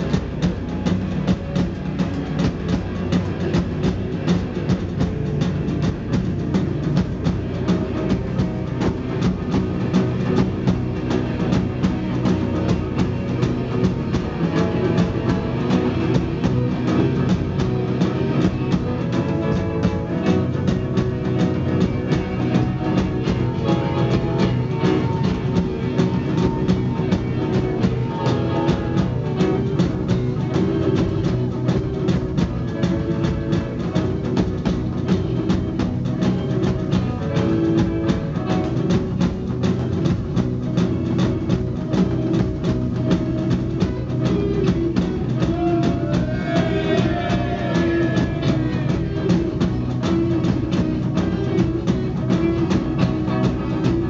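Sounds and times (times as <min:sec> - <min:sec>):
bass guitar: 0:00.0 - 0:54.0
drum kit beat: 0:00.0 - 0:54.0.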